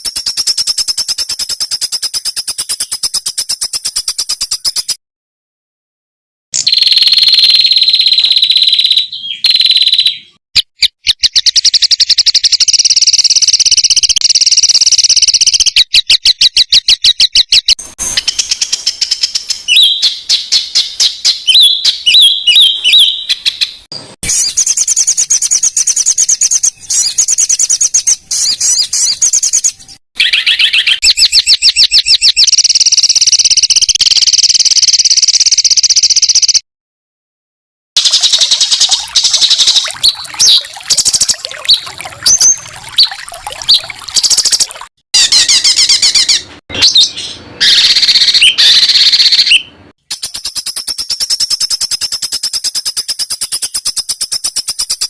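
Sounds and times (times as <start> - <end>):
songbird fast trills: 6.6 - 36.6, 38.0 - 55.0.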